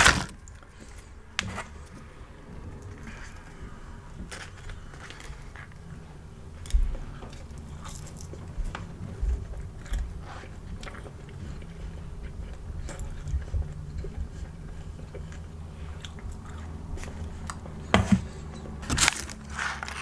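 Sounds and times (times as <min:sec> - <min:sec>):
crunchy chewing of fries: 0:00.0 - 0:20.0.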